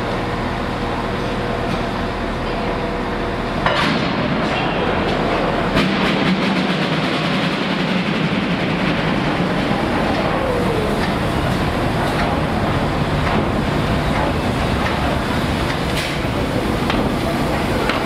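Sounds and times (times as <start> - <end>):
steam locomotive exhaust beats: 0.0 - 18.0.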